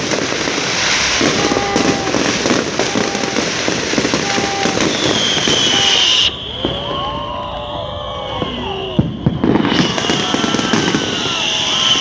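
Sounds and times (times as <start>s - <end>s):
fireworks crackling: 0.0s - 7.5s, 8.3s - 12.0s
fireworks whistling: 0.0s - 12.0s.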